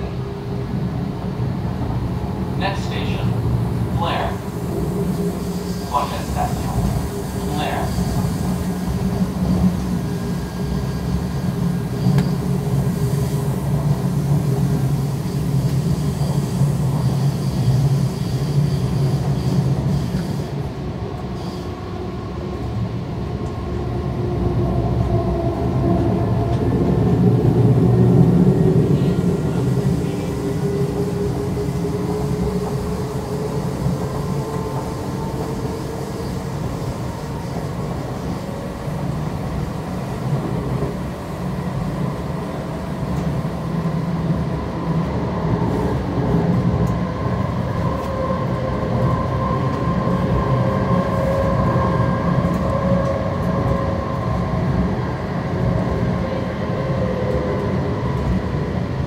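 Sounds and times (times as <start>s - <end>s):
rail wheels rumbling: 0.0s - 59.0s.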